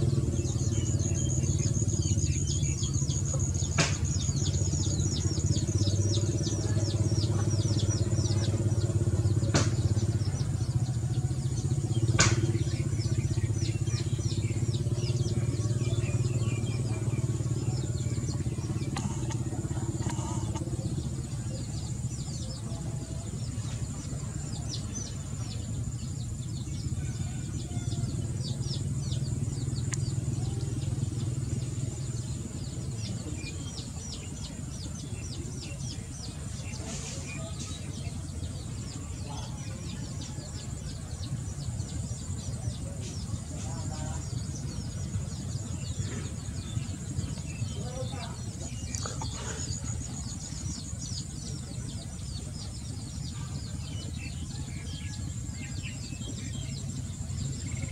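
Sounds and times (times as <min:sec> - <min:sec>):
low motor hum: 0:00.0 - 0:57.9
small birds chirping: 0:00.0 - 0:57.9.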